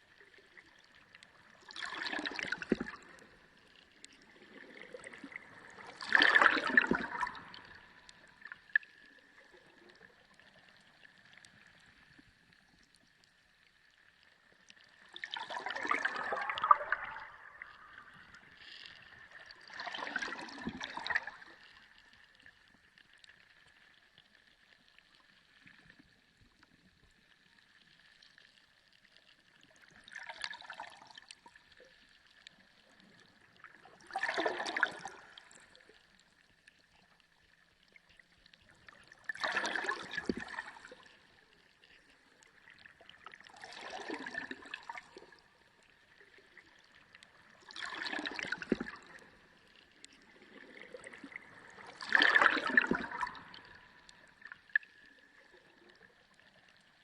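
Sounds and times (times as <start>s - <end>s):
sea water sloshing and gurgling: 0.0s - 57.0s.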